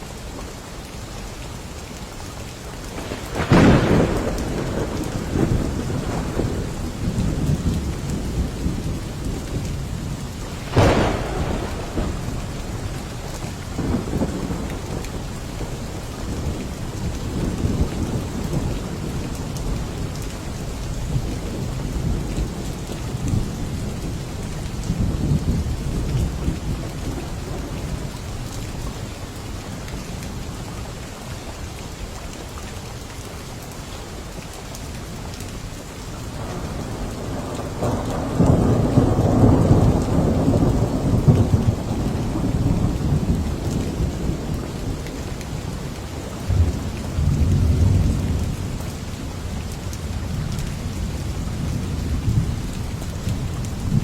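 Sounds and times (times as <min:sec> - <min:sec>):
heavy rain: 0:00.0 - 0:54.0
thunder cracking and rumbling: 0:02.9 - 0:28.3, 0:36.2 - 0:54.0.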